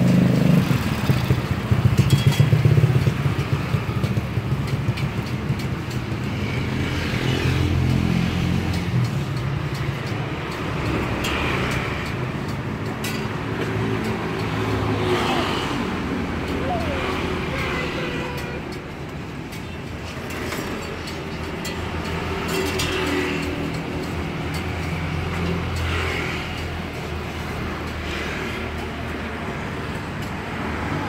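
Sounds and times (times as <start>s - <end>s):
car engines passing: 0.0s - 31.0s
motorbike engines passing: 0.0s - 31.0s.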